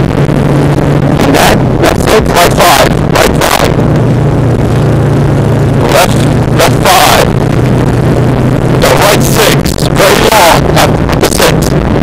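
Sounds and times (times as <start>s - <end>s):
gravel and road noise: 0.0s - 12.0s
rally car engine running hard: 0.0s - 12.0s.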